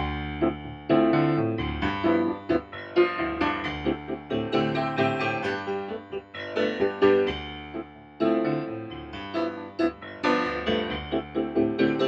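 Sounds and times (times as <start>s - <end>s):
slow grand piano piece: 0.0s - 12.0s.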